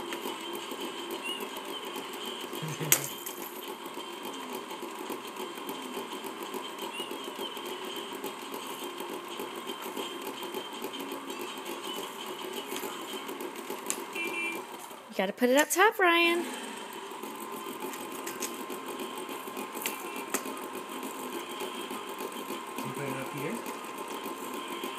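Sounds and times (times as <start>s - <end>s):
mechanical whir: 0.0s - 24.9s.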